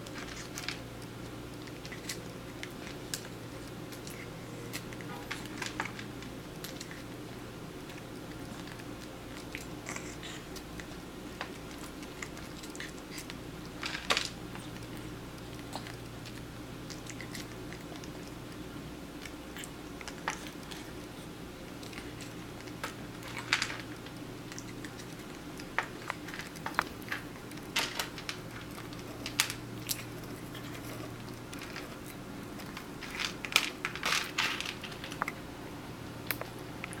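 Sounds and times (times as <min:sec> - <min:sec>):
cat crunching food: 0:00.0 - 0:37.0
steady low hum: 0:00.0 - 0:37.0.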